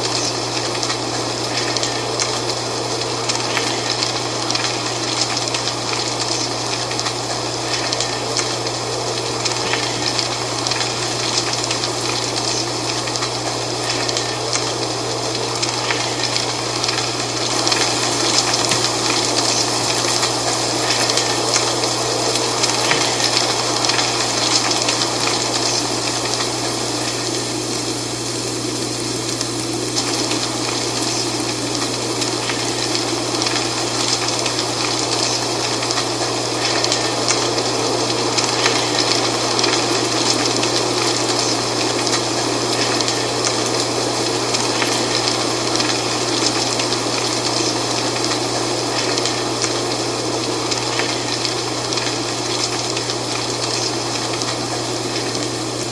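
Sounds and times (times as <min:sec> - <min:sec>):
wind rustling dry leaves: 0:00.0 - 0:55.9.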